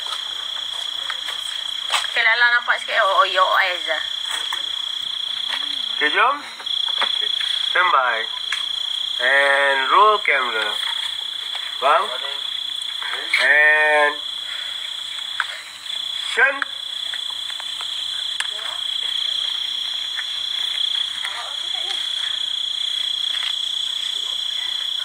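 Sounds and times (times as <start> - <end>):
insects buzzing: 0.0 - 25.0
frog croaking: 0.6 - 25.0.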